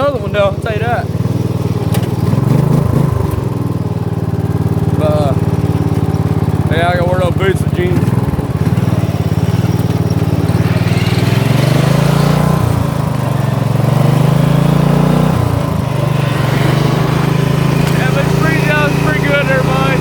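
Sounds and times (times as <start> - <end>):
small vehicle engine running: 0.0 - 20.0.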